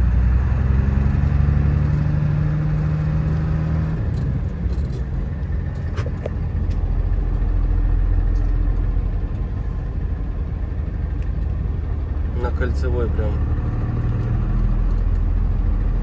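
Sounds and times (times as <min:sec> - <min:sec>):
road noise: 0:00.0 - 0:16.0
truck engine from inside cab: 0:00.0 - 0:16.0.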